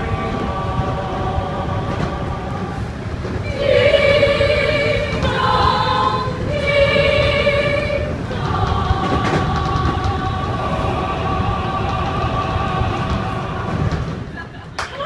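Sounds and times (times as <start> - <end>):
choir singing a cappella: 0.0 - 14.6
low train car rumble: 0.0 - 15.0.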